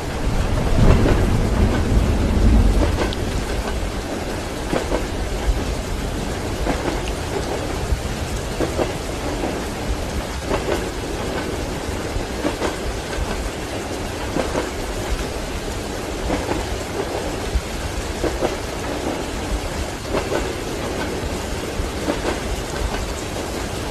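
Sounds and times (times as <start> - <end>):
low rumbling thunder: 0.0 - 23.9
steady rain: 0.0 - 23.9
train wheels clacking: 0.0 - 23.9.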